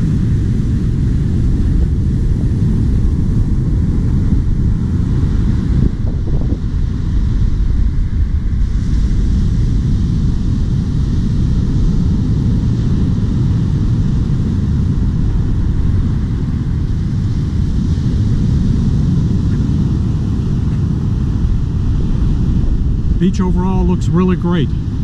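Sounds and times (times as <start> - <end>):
waves breaking on beach: 0.0 - 25.0
wind buffeting microphone: 0.0 - 25.0.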